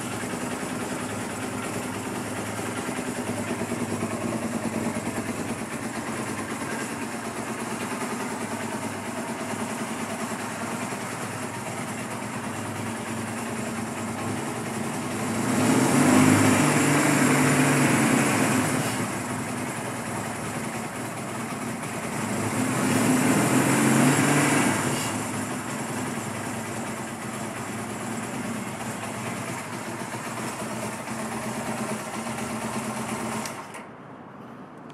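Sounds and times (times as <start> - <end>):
motorcycle engine revving: 0.0 - 33.8.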